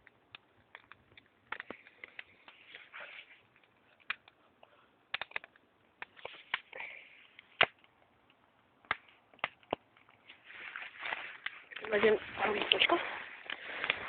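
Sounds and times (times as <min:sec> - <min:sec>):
dry wood snapping: 0:00.0 - 0:14.0.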